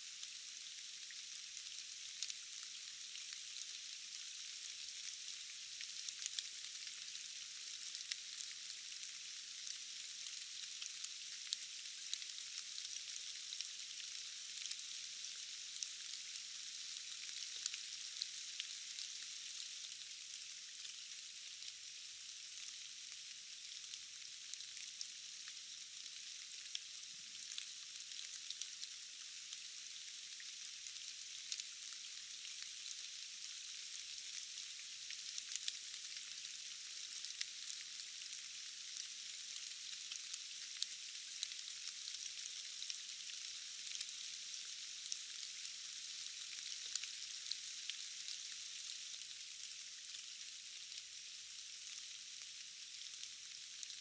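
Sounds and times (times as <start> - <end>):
steady rain falling: 0.1 - 54.0.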